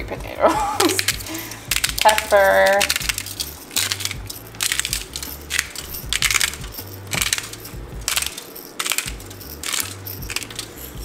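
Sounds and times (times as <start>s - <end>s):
pepper grinder grinding: 0.6s - 11.0s.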